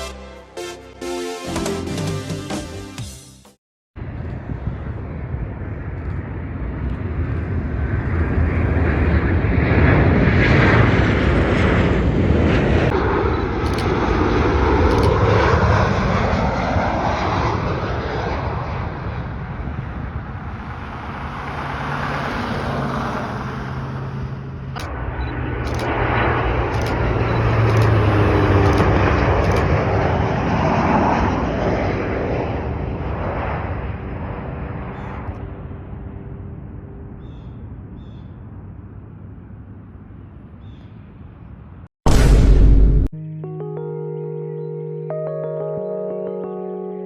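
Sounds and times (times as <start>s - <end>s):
airliner engine roar: 4.0s - 44.0s.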